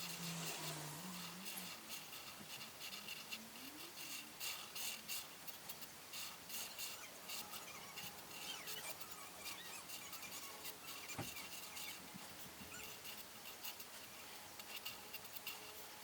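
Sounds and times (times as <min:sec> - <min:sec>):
coloring strokes on paper: 0:00.0 - 0:16.0.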